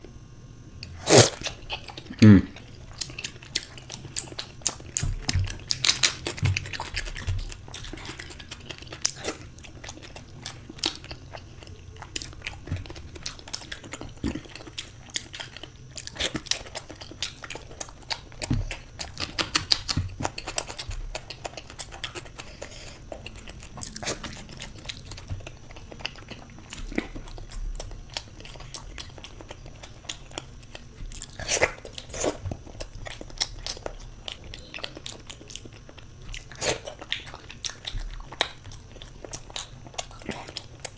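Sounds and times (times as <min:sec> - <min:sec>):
person chewing and biting: 0:00.8 - 0:40.9.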